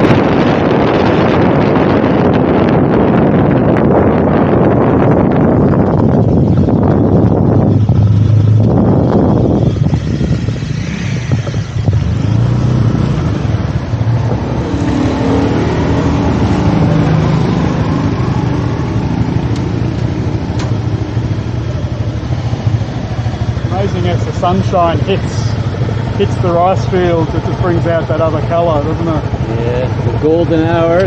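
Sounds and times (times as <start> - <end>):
motorbike engine running: 0.0 - 31.0
wind rushing over microphone: 0.0 - 31.0.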